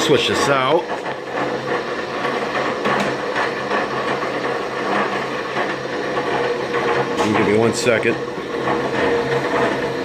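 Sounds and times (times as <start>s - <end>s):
bandsaw motor hum: 0.0s - 10.0s.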